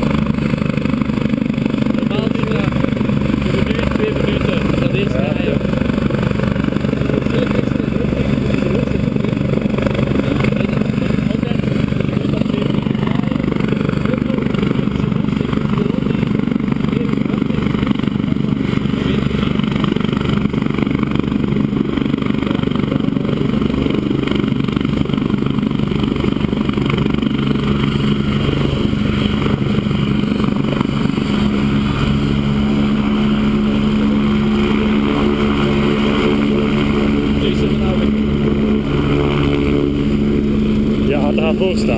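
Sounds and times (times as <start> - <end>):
helicopter engine and rotor hum: 0.0 - 41.9.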